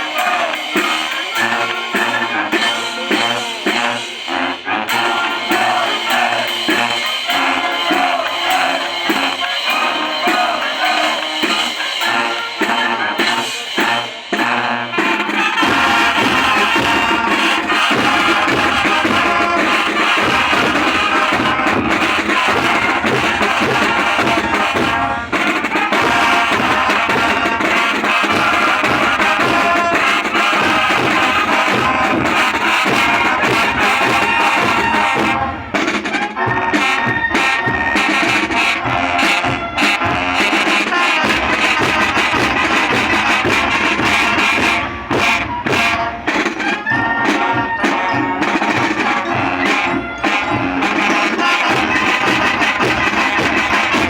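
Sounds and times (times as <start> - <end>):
band playing drums and brass: 0.0 - 54.0.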